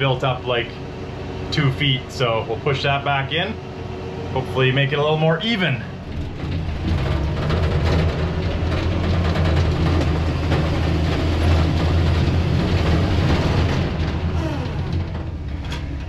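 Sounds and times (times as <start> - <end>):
dozer diesel engine running: 0.0 - 16.0
tracks clanking and rattling: 0.0 - 16.0.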